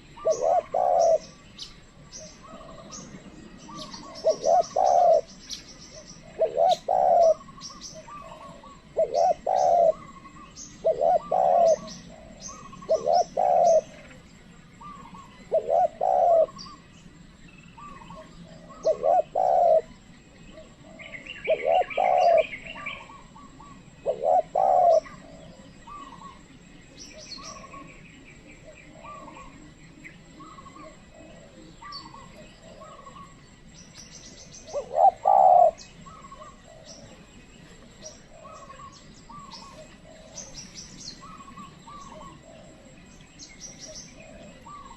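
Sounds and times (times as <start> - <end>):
dove cooing: 0.0 - 44.9
small birds chirping: 0.0 - 44.9.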